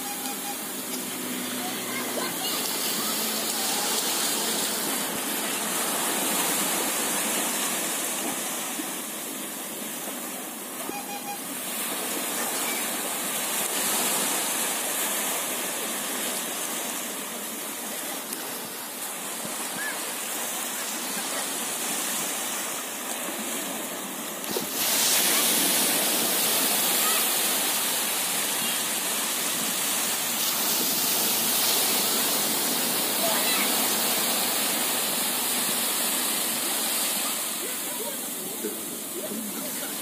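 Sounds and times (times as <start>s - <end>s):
small waves breaking on beach: 0.0s - 40.0s.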